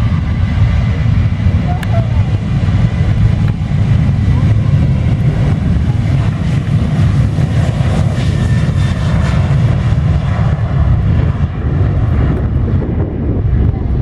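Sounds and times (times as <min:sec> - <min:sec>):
airliner engines rumbling: 0:00.0 - 0:14.0.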